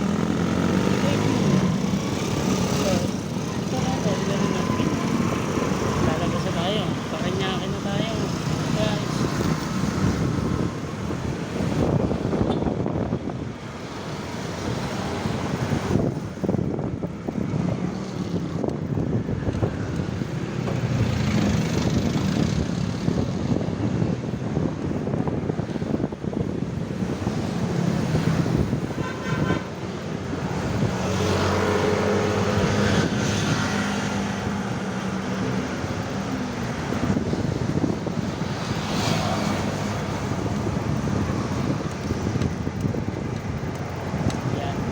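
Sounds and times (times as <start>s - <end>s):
street traffic passing: 0.0s - 44.9s
vehicle engine hum: 0.0s - 44.9s.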